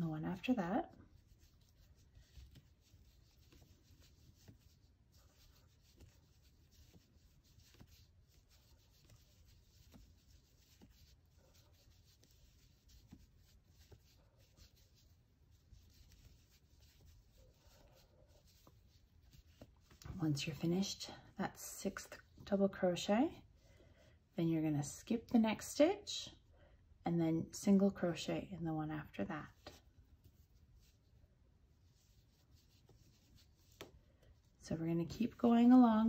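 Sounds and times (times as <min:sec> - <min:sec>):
yarn rubbing: 0:00.0 - 0:23.3, 0:27.6 - 0:36.0.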